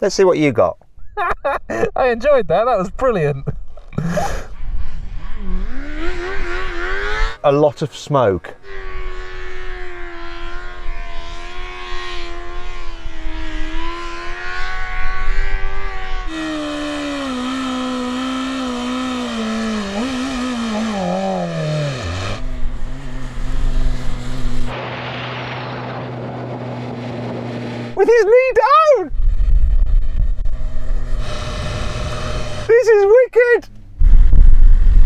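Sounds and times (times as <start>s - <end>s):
motorcycle engine revving: 4.3s - 33.0s.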